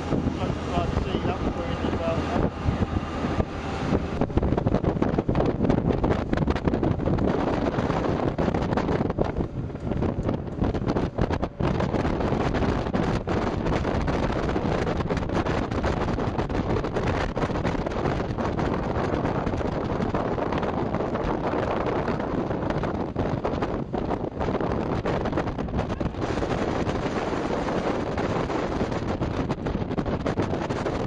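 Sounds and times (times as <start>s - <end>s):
boat engine: 0.0s - 31.0s
hull on water: 0.0s - 31.0s
wind buffeting microphone: 0.0s - 31.0s.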